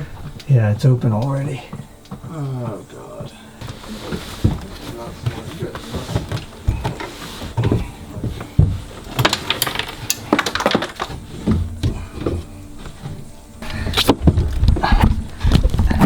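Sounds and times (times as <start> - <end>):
thumps and clattering of people moving: 0.0 - 16.0.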